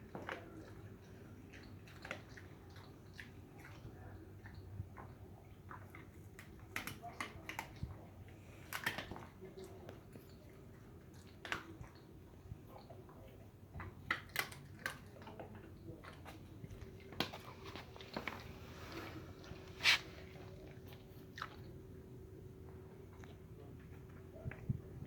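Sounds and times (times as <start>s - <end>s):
dog chewing and crunching food: 0.0s - 25.0s.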